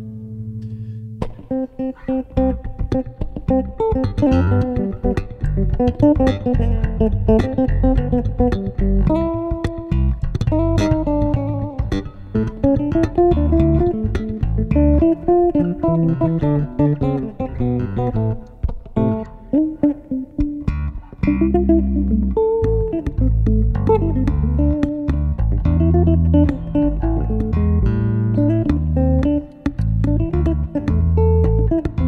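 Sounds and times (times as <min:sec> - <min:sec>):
plucked bass melody: 0:00.0 - 0:32.0
low bass line: 0:02.1 - 0:32.0.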